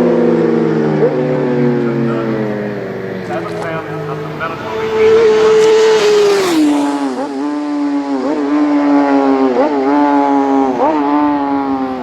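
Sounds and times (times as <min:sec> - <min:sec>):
racing motorcycle passing: 0:00.0 - 0:12.0.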